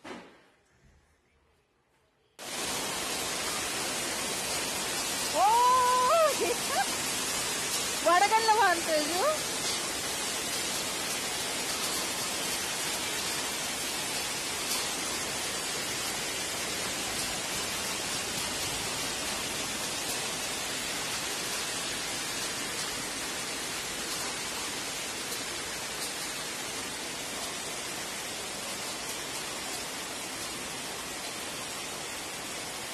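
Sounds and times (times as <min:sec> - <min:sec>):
rain on roof tiles: 0:02.4 - 0:32.9.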